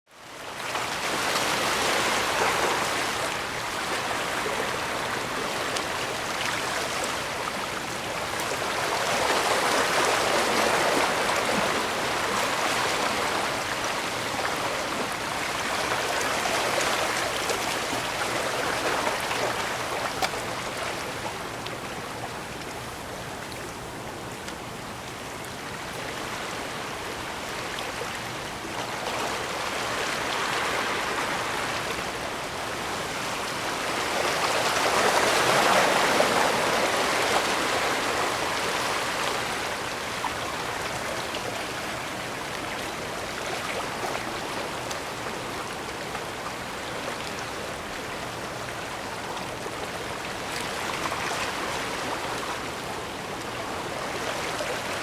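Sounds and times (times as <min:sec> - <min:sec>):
waves washing against shore: 0:00.4 - 0:22.7, 0:25.7 - 0:55.0.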